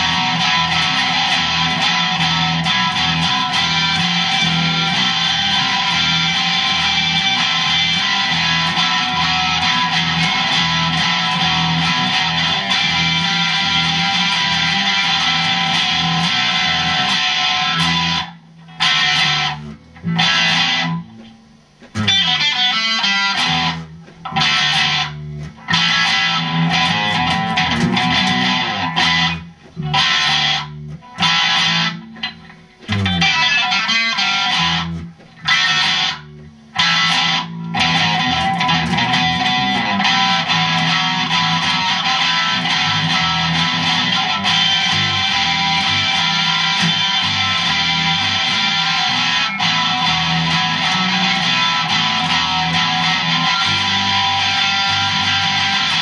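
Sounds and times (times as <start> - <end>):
electric bass: 0.0 - 56.0
electric guitar: 0.0 - 56.0.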